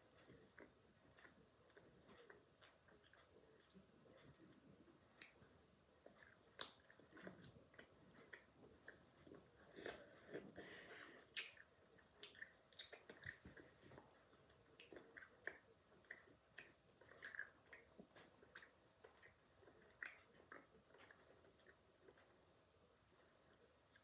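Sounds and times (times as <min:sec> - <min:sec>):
child chewing a snack: 0:00.0 - 0:24.0.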